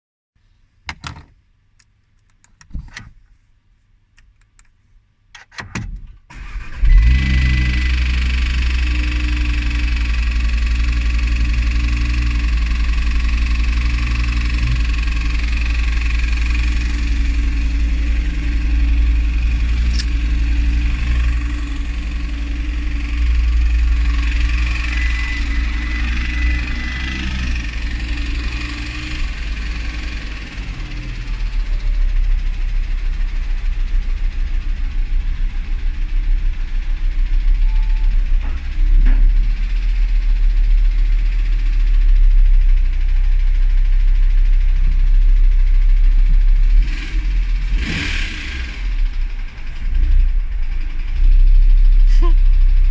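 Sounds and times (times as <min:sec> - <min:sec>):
car engine starting and idling: 0:05.4 - 0:52.9
engine knocking: 0:06.4 - 0:52.9.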